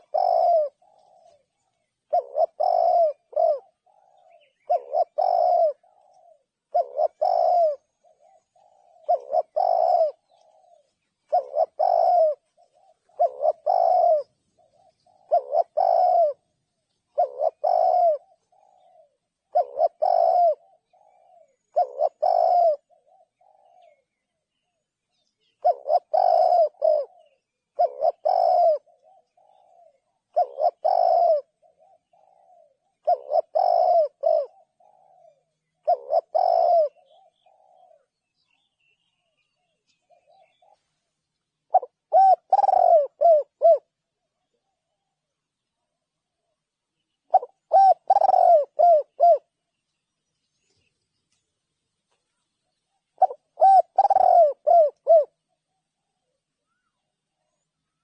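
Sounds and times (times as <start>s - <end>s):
dove cooing: 0.0s - 49.8s, 52.6s - 58.0s.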